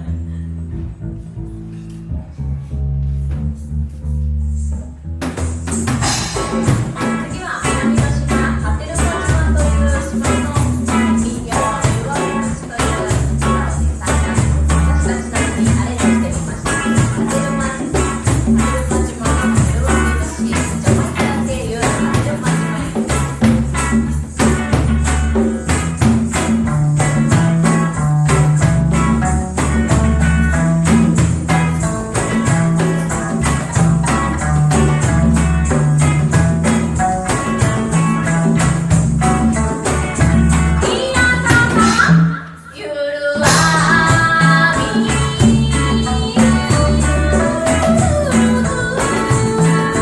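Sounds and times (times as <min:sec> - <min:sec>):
live reggae band playing: 0:05.0 - 0:42.8, 0:43.4 - 0:50.0.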